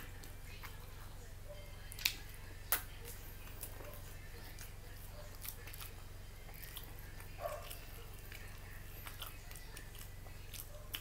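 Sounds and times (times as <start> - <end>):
chewing: 0.0 - 1.0, 1.6 - 11.0
low electrical hum: 0.0 - 11.0.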